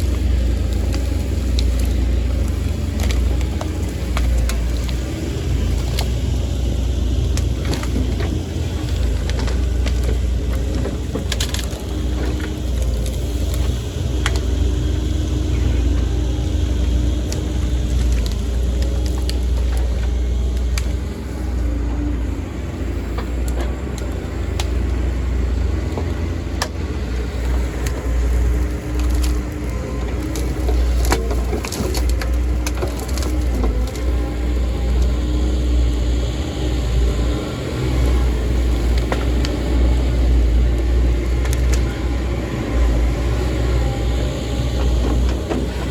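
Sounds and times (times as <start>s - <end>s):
diesel engine rumbling: 0.0s - 45.9s
wood cracking and snapping: 0.0s - 45.9s.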